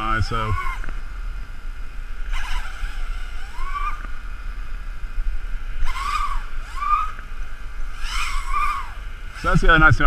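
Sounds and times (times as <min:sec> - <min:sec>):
drone motors whining: 0:00.0 - 0:10.0
low wind rumble: 0:00.0 - 0:10.0.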